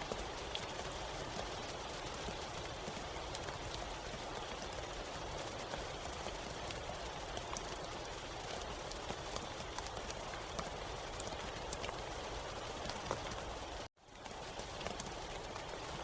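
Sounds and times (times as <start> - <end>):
soft steady rain: 0.0 - 16.0
rain drop ticks: 0.1 - 16.0.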